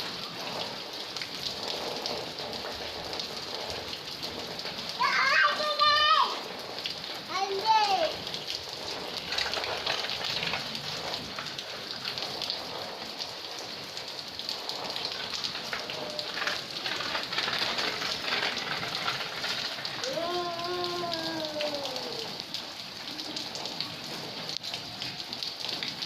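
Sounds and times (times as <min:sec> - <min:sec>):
rain pattering and splashing: 0:00.0 - 0:26.0.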